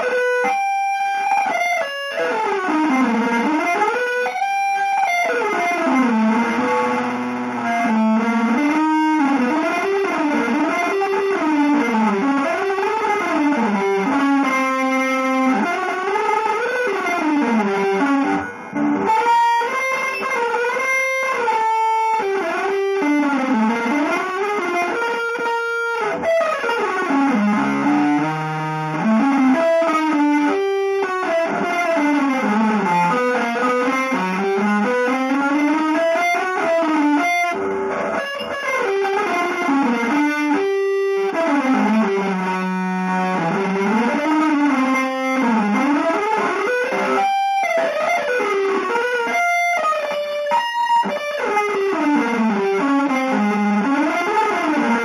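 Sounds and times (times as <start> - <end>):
distorted electric guitar runs: 0.0 - 55.0.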